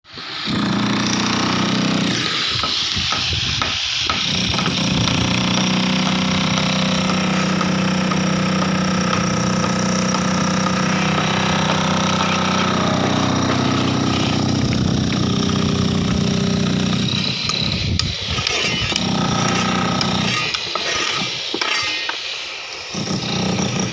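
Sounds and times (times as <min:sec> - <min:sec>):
concrete-cutting machine running: 0:00.4 - 0:22.1, 0:22.9 - 0:23.9.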